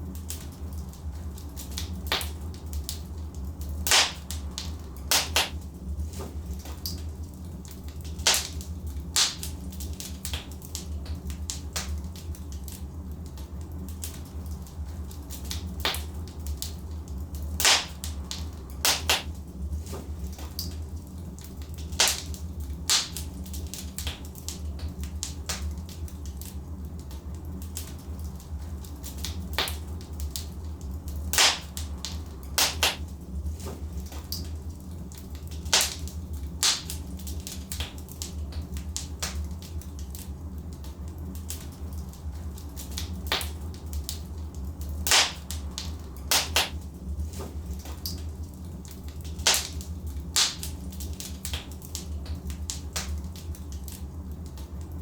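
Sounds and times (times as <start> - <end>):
burning logs crackling: 0.0 - 55.0
low fire rumble: 0.0 - 55.0
sharp pops from fire: 0.1 - 55.0.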